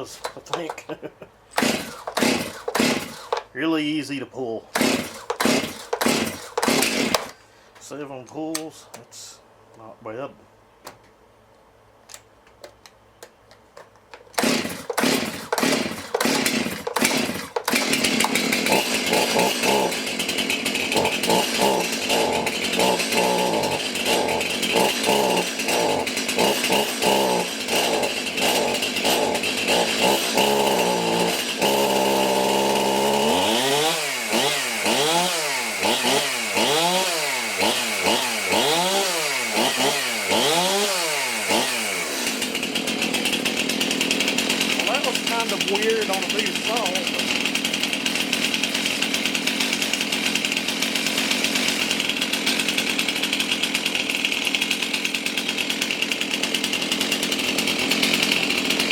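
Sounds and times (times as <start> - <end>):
chainsaw starting and revving: 0.0 - 0.8, 1.5 - 3.5, 4.7 - 7.4, 14.3 - 58.9.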